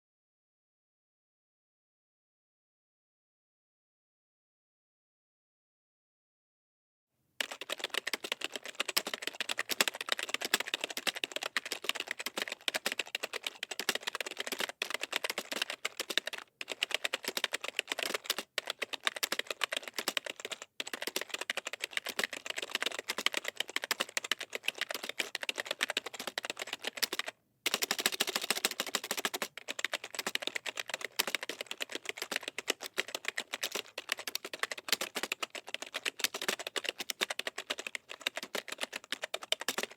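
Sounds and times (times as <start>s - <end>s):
fast keyboard typing: 7.4s - 39.9s.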